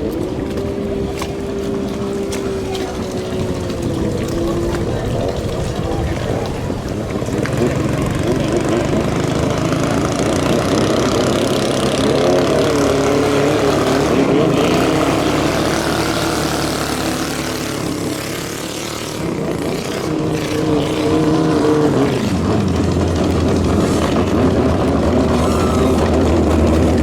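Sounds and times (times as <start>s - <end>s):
racing boat engines revving: 0.0s - 27.0s.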